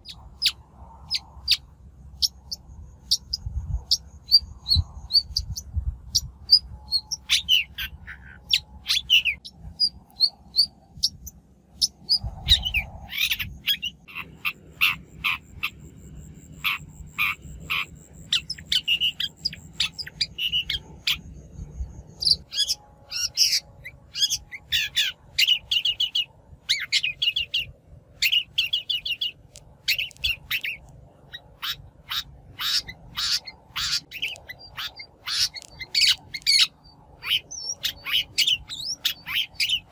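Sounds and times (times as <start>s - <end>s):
shrike calling: 0.0s - 39.9s.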